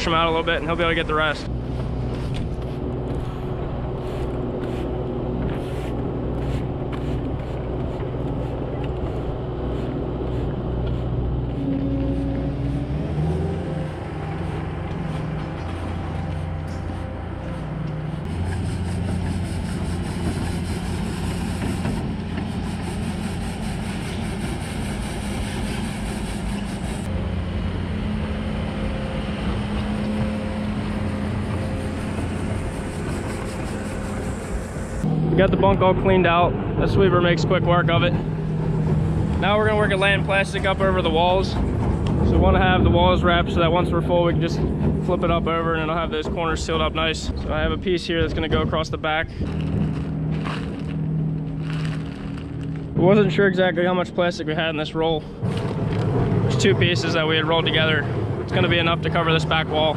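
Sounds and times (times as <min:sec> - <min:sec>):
farm machine engine running: 0:00.0 - 0:59.9.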